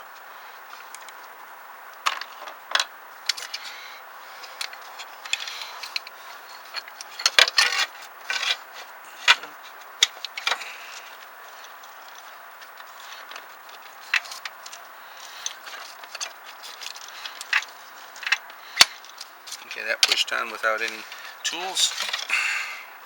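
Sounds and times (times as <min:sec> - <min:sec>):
metal parts clicking and clinking: 0:02.0 - 0:03.7, 0:04.4 - 0:22.3.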